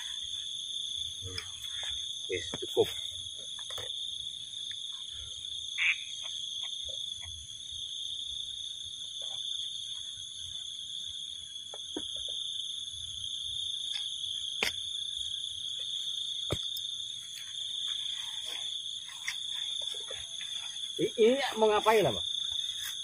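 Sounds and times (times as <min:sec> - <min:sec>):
insects calling: 0:00.0 - 0:23.0.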